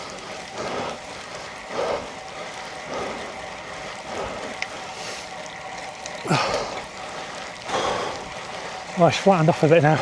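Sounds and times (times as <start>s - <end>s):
bicycle tyres on gravel: 0.0s - 10.0s
heavy rain: 0.0s - 10.0s.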